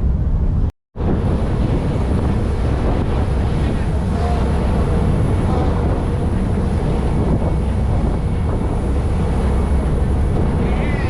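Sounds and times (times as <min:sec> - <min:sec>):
ferry engine rumble: 0:00.0 - 0:11.0
wind on microphone: 0:00.0 - 0:11.0.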